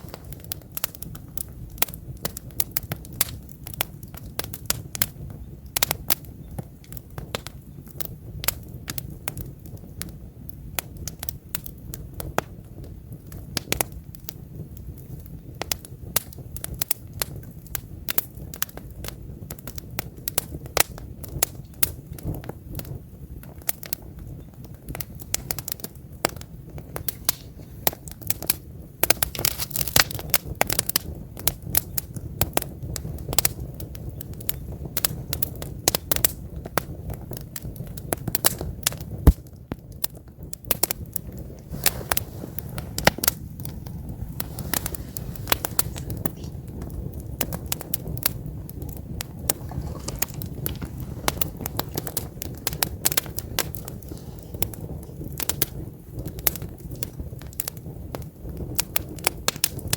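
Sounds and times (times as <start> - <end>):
campfire logs crackling: 0.0 - 59.9.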